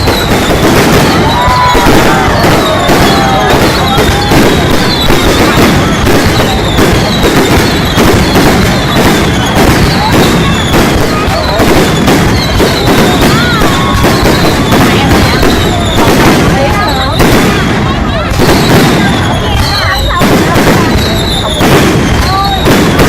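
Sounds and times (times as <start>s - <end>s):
fireworks banging and crackling: 0.0s - 23.0s.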